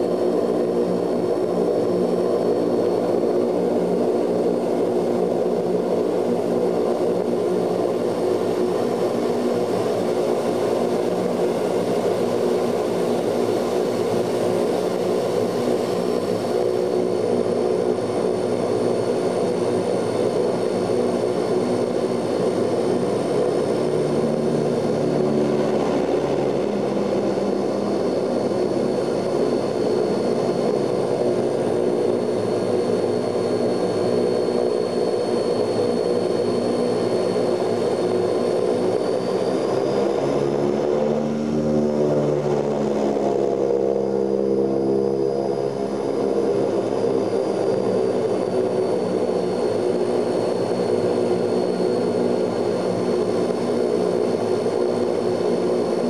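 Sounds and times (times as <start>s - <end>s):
high engine whine: 0.0s - 56.0s
propeller drone: 0.0s - 56.0s.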